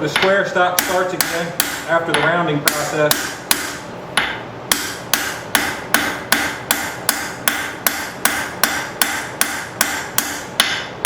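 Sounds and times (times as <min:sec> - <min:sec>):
hammer striking steel on anvil: 0:00.1 - 0:11.0.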